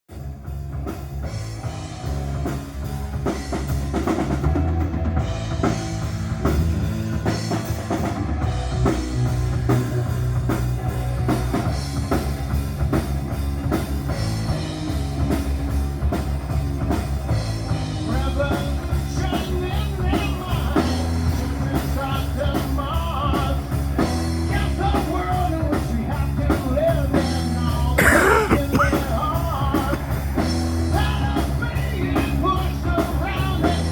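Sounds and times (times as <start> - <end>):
drum kit steady beat: 0.1 - 33.9
rock band playing: 0.1 - 33.9.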